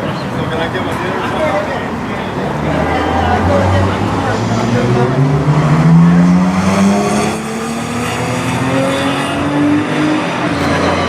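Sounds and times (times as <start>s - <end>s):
sports car engine accelerating: 0.6s - 11.0s.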